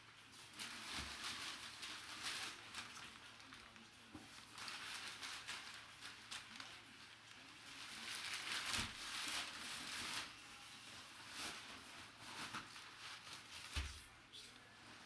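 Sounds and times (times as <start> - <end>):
packaging rustling and crinkling: 0.1 - 14.2.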